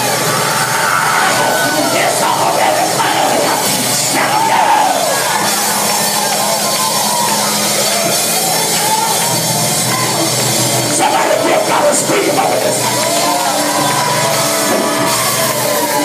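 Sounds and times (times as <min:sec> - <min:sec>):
church band music: 0:00.0 - 0:16.0
congregation shouting: 0:00.0 - 0:16.0
drum kit: 0:00.0 - 0:16.0.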